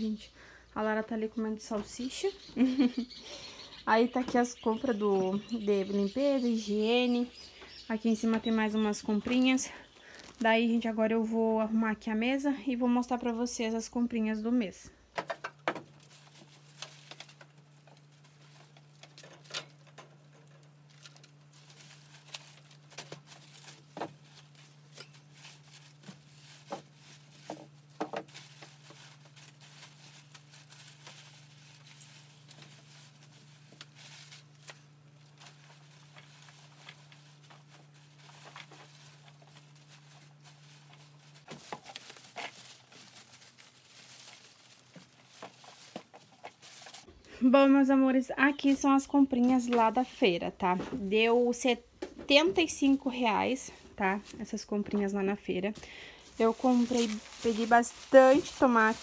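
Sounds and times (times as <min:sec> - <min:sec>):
plastic bags rustling: 0:01.2 - 0:11.3, 0:15.2 - 0:59.0.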